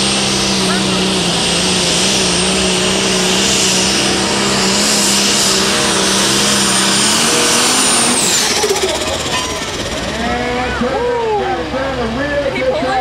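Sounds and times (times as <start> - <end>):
high whine: 0.0 - 12.4
diesel tractor engine flat out: 0.0 - 13.0.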